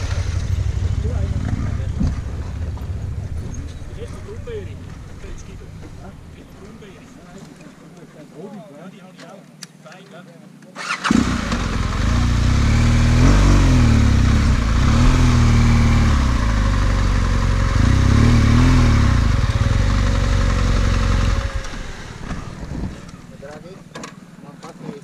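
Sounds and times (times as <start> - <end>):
motorcycle engine starting and revving: 0.0 - 6.8, 10.8 - 24.2.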